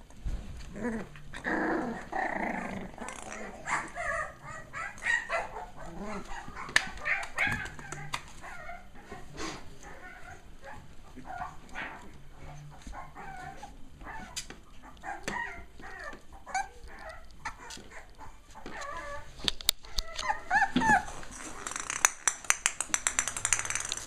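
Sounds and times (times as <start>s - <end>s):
puppies yipping and whining: 1.9s - 21.9s.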